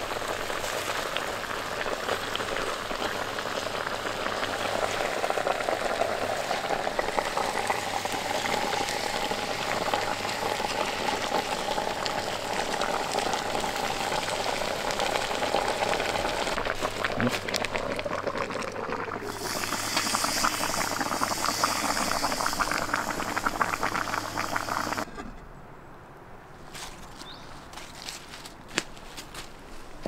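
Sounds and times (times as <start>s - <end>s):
liquid boiling and sizzling: 0.0s - 25.1s.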